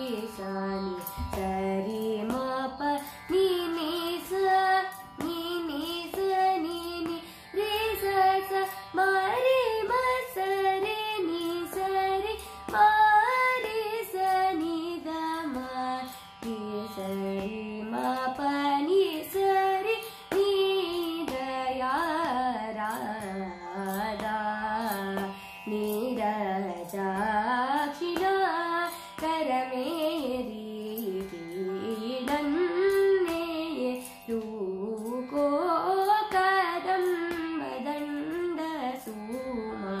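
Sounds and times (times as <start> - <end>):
girl singing: 0.0 - 40.0.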